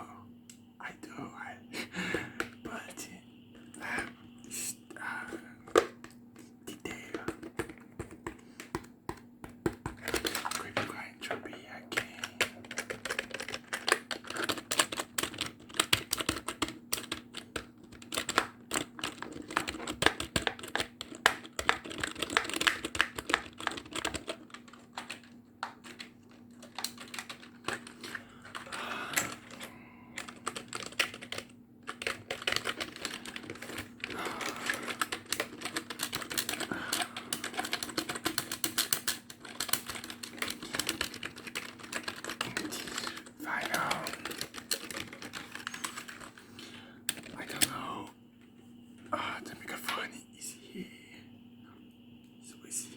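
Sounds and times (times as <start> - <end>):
low steady hum: 0.0 - 52.9
keyboard typing: 3.6 - 48.0.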